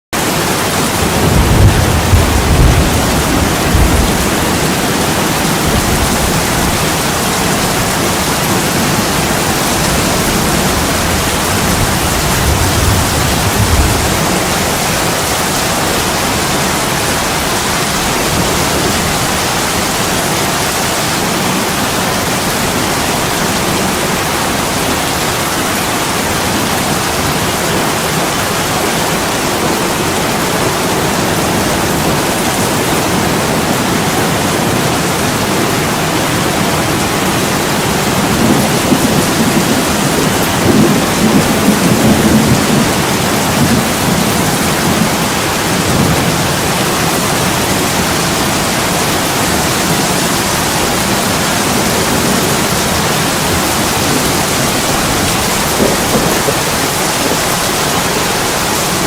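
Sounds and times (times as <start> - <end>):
heavy rain on window: 0.2 - 59.0.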